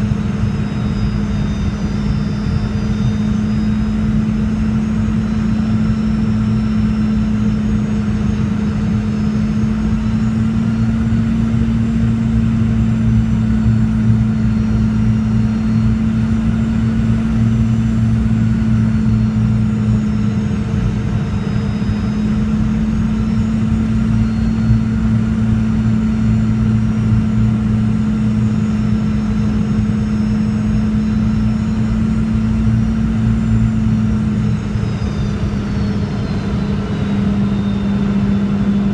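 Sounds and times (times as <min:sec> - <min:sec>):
airplane cabin hum and rumble: 0:00.0 - 0:38.9
faint high engine whine: 0:00.0 - 0:38.9.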